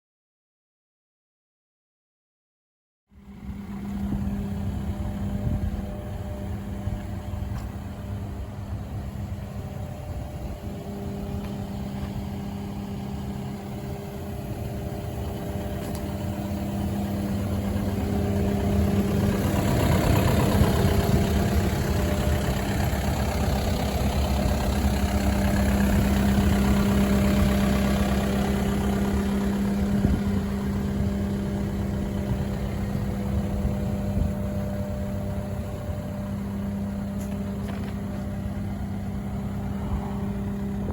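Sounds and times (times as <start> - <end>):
excavator diesel engine running: 3.2 - 40.9.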